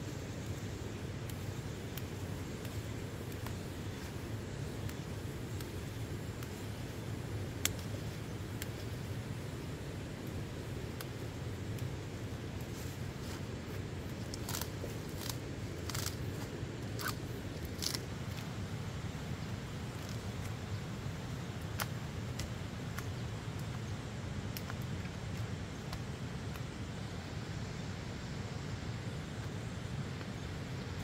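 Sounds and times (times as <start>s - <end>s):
low background noise: 0.0s - 31.0s.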